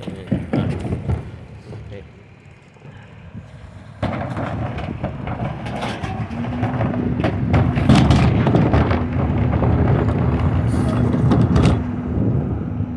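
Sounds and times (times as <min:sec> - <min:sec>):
recycling truck knocking and clattering: 0:00.0 - 0:02.4, 0:03.4 - 0:12.7.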